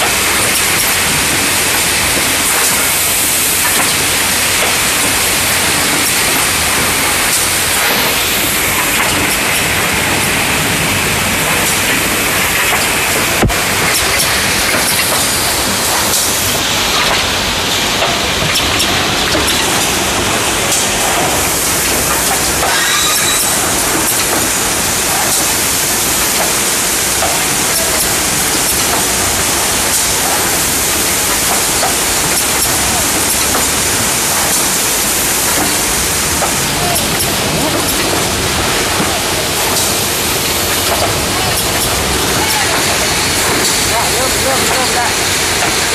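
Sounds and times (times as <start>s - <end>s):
faint machine clacks: 0.0s - 45.9s
packing machine din: 0.0s - 45.9s.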